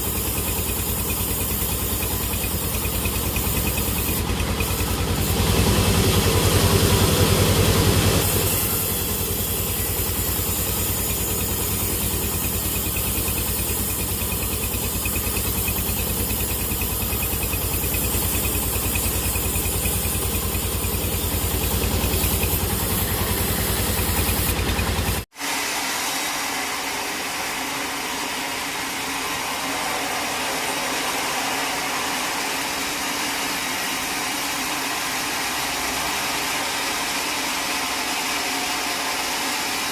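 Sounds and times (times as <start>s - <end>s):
hissing machine noise: 0.0s - 39.9s
sawmill machinery humming: 0.0s - 39.9s.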